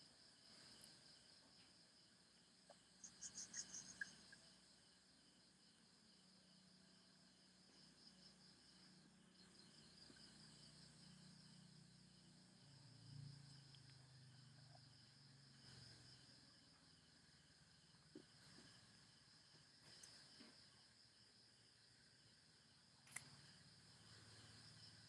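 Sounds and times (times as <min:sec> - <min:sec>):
faint low hum: 0:00.0 - 0:25.0
insect chirping: 0:00.0 - 0:25.0.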